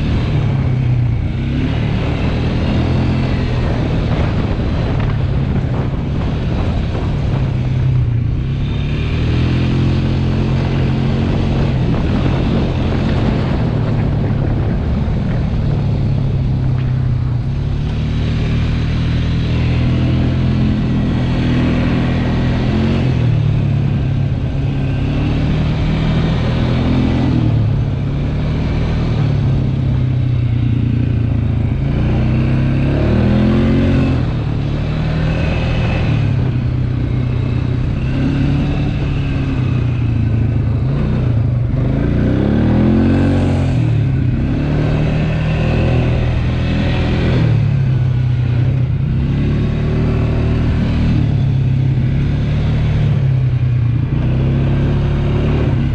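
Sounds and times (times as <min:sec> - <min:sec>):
atv engine revving: 0:00.0 - 0:55.9.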